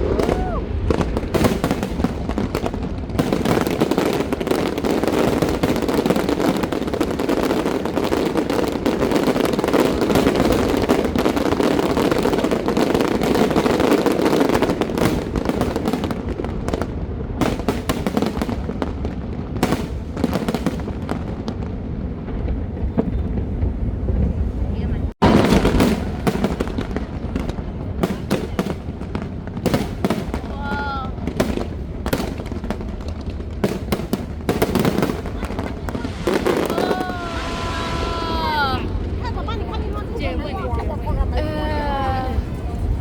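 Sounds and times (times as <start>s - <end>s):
fireworks exploding: 0.0s - 43.0s.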